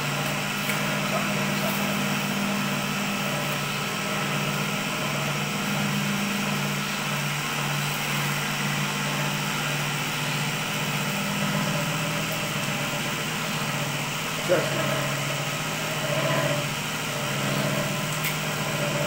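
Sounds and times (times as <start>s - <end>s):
cotton candy machine motor hum: 0.0s - 19.0s.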